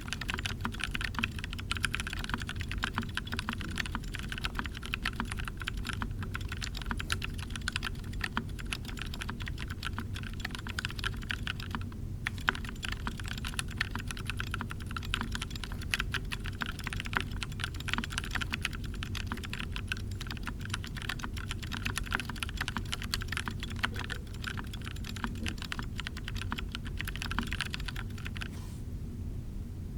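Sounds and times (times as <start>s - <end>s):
typing on mechanical keyboard: 0.0s - 28.5s.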